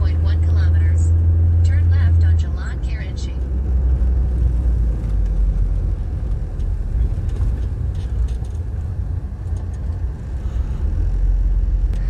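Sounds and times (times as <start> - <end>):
car driving rumble: 0.0 - 12.0
road and wind noise: 0.0 - 12.0.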